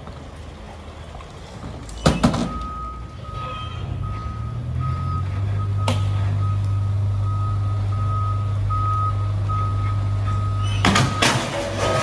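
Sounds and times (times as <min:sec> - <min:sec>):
reversing alarm beeping: 0:02.1 - 0:12.0.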